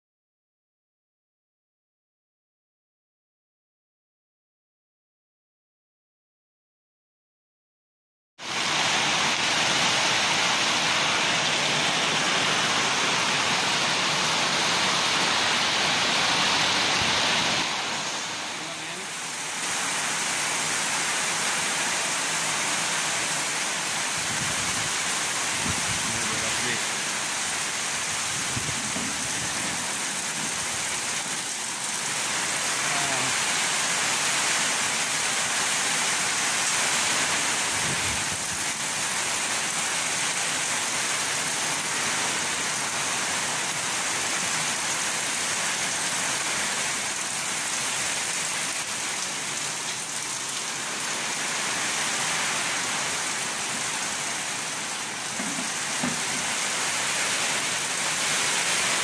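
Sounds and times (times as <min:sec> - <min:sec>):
heavy rain pouring: 0:08.4 - 0:59.0.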